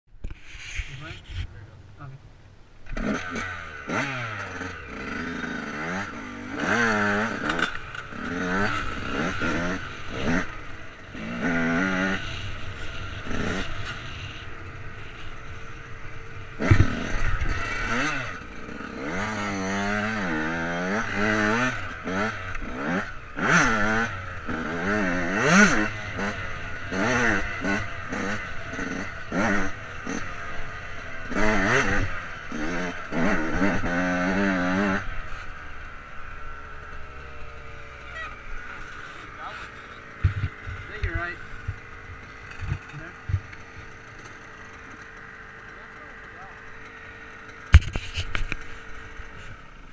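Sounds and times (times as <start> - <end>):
dirt bike engine revving: 2.8 - 49.9.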